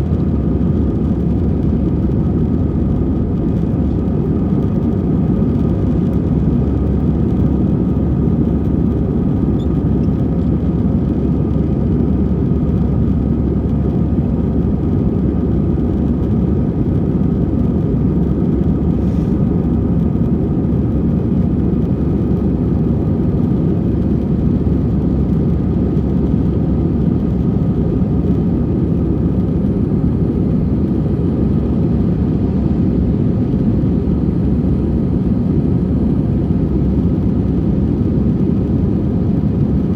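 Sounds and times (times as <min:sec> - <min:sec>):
airliner engine drone: 0:00.0 - 0:39.9
rushing air in cabin: 0:00.0 - 0:39.9.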